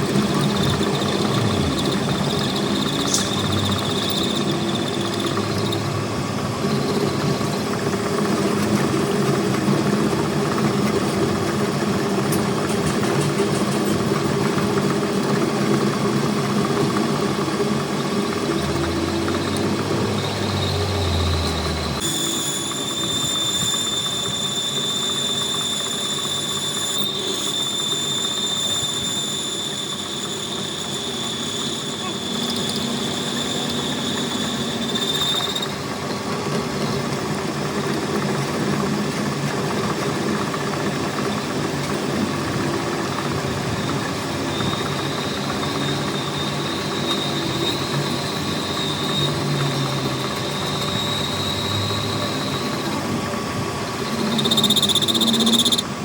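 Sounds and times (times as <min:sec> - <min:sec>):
machine running with high whine: 0:00.0 - 0:56.0.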